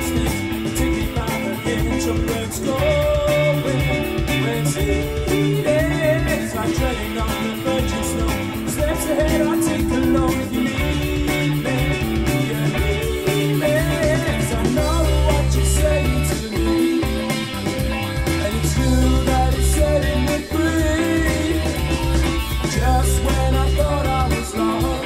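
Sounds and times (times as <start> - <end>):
song from speaker: 0.0 - 25.0.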